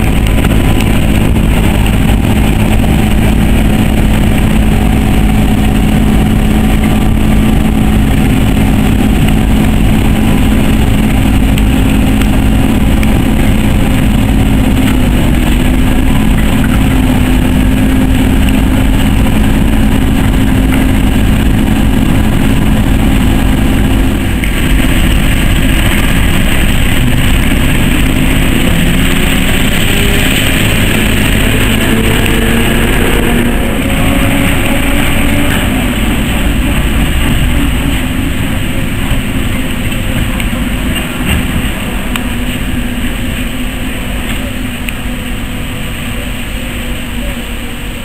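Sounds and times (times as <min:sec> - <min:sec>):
diesel locomotive engine droning: 0:00.0 - 0:48.0.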